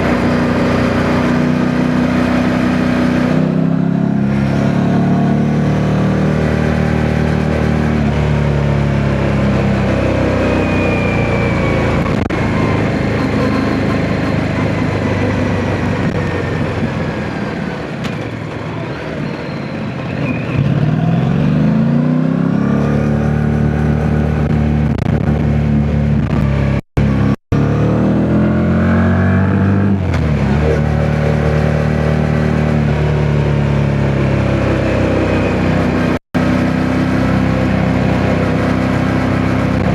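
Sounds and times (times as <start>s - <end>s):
motorcycle engine revving: 0.0s - 18.0s, 20.1s - 39.9s.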